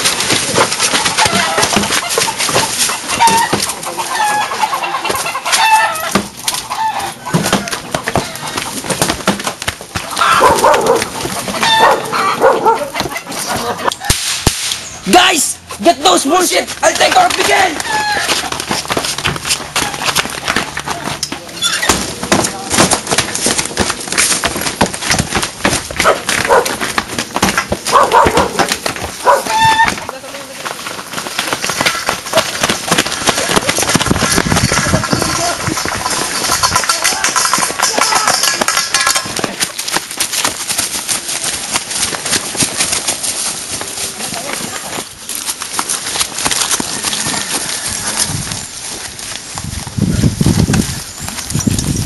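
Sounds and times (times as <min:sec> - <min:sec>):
footsteps running on dirt path: 0:00.0 - 0:13.8, 0:15.6 - 0:52.0.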